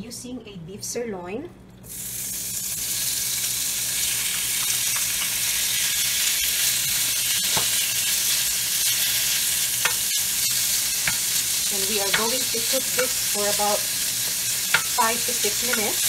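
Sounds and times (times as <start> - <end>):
meat sizzling in a pan: 1.9 - 16.0.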